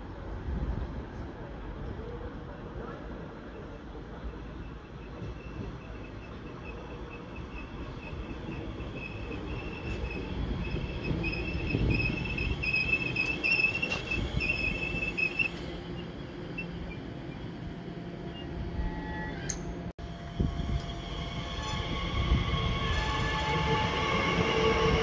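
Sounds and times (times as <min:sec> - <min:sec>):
electric train rumble: 0:00.0 - 0:25.0
train wheels squealing: 0:04.2 - 0:17.6, 0:18.3 - 0:25.0.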